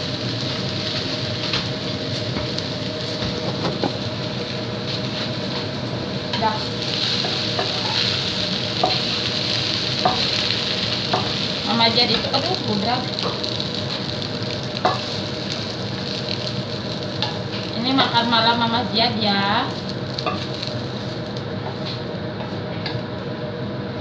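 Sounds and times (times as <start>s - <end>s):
fried rice sizzling in a wok: 0.0s - 24.0s.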